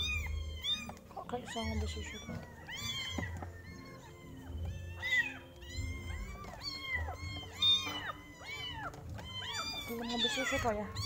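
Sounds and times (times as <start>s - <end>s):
kittens mewing: 0.0s - 11.0s.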